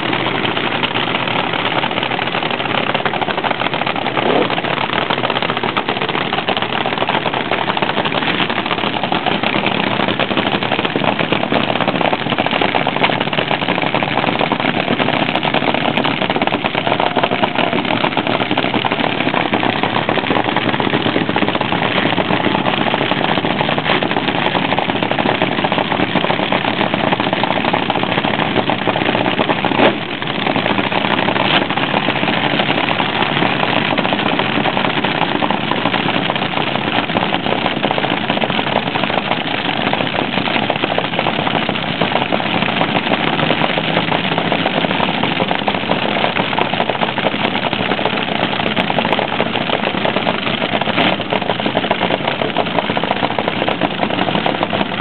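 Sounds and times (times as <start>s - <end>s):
dragster engines idling crackle: 0.0s - 55.0s.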